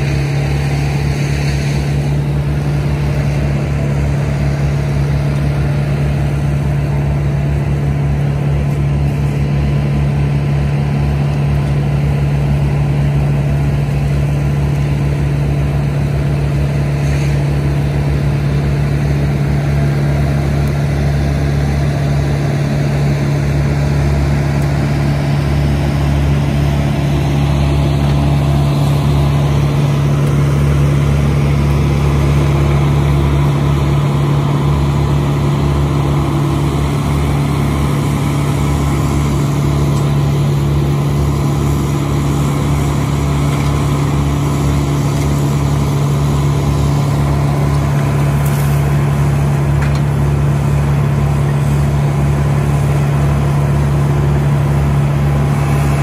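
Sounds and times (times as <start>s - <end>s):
wood chipper engine droning: 0.0s - 56.0s.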